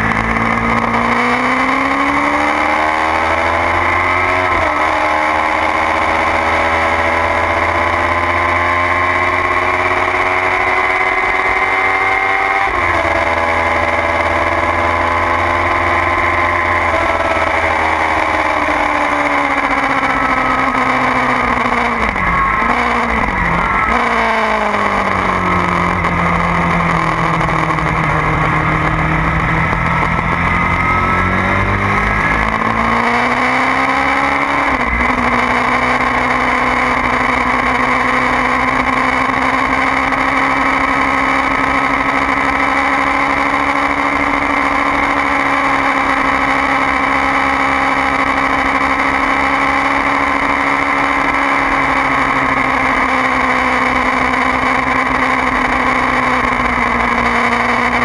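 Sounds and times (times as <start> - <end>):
motorcycle engine running at speed: 0.0 - 58.0.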